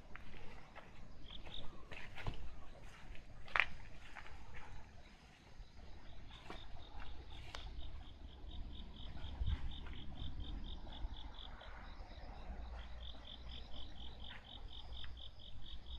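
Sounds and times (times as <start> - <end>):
insect chirping: 0.1 - 2.0, 4.0 - 15.9.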